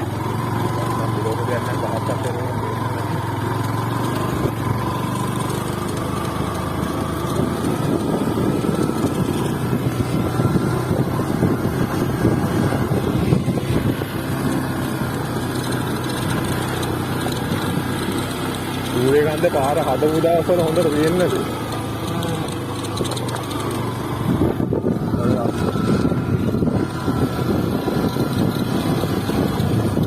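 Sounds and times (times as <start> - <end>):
motorcycle engine running: 0.0 - 30.0
wind and road noise: 0.0 - 30.0.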